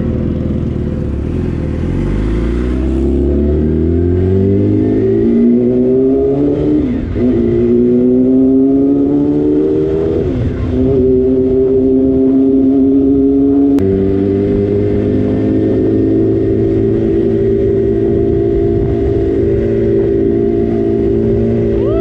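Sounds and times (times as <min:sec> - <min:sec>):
motorcycle engine at high revs: 0:00.0 - 0:21.9.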